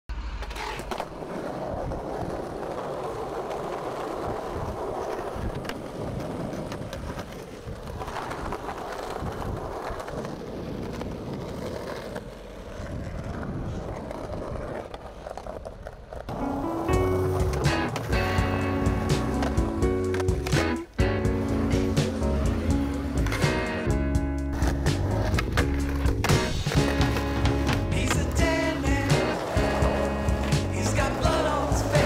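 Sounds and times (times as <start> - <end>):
skateboard wheels rolling on pavement: 0.1 - 32.0
skateboard clacks: 0.2 - 32.0.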